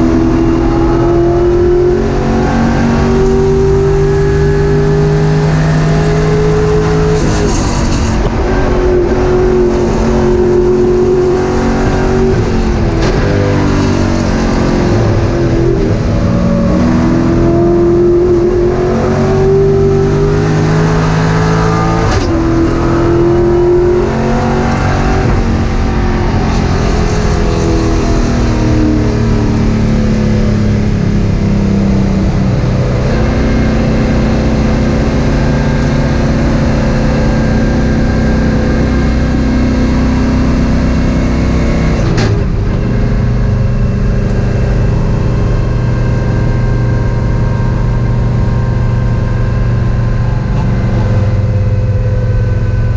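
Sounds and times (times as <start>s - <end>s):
race car engine accelerating: 0.0s - 52.9s.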